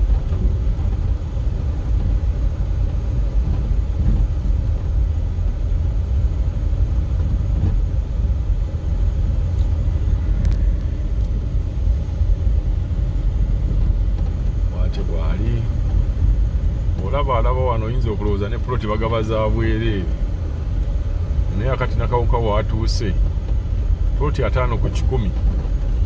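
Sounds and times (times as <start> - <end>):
vehicle road rumble: 0.0 - 26.0.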